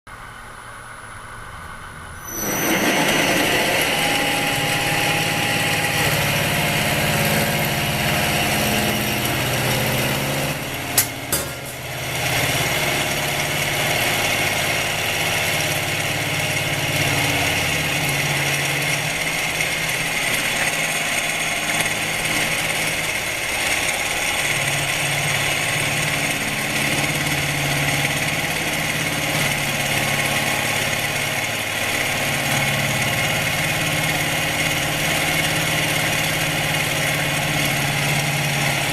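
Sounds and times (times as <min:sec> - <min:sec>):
milling machine drone: 0:00.3 - 0:38.9.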